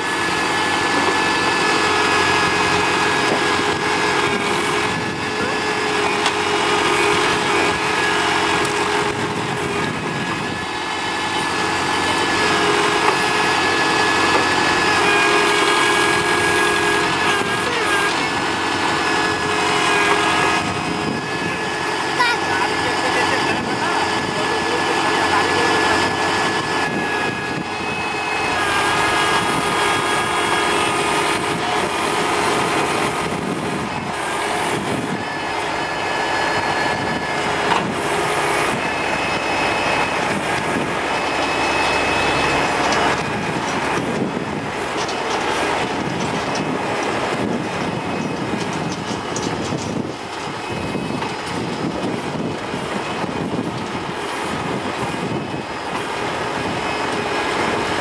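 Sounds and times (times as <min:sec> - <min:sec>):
diesel engine running: 0:00.0 - 0:58.0
high whine: 0:00.0 - 0:58.0.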